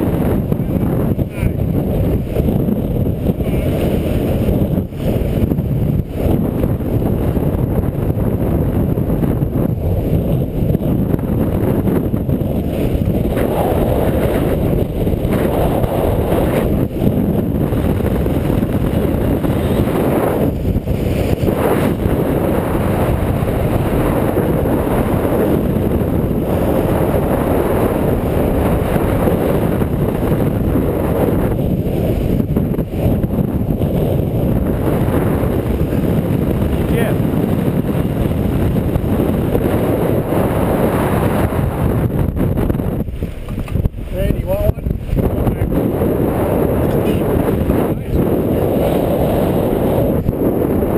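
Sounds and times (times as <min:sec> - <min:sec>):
wind buffeting a microphone: 0:00.0 - 0:50.9.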